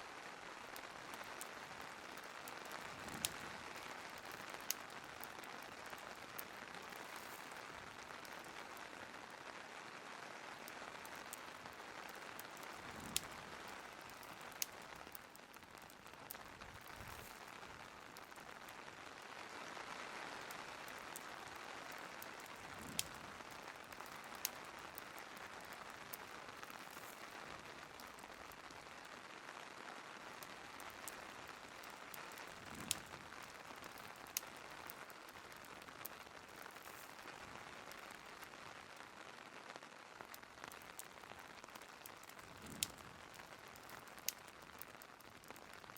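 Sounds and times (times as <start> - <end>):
steady rain: 0.0 - 45.9
wood fire crackling: 0.0 - 45.9.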